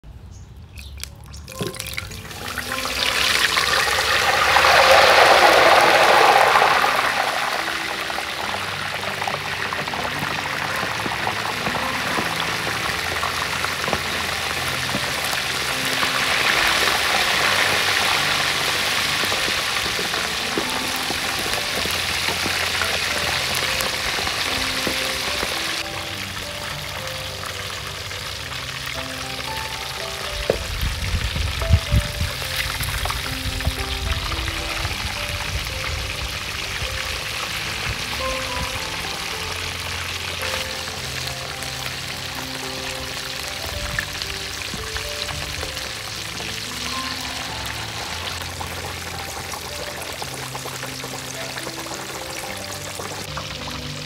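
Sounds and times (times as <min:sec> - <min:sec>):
food sizzling in hot oil: 0:00.8 - 0:54.0.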